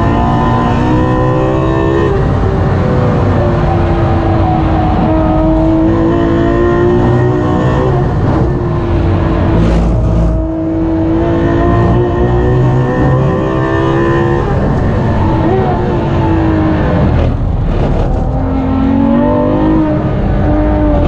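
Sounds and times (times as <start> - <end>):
engine running at high revs: 0.0 - 21.0.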